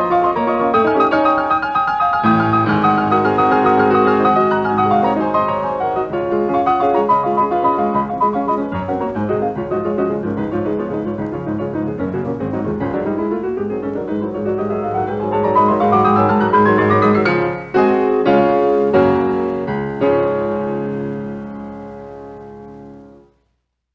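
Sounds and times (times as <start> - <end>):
piano music: 0.0 - 23.3.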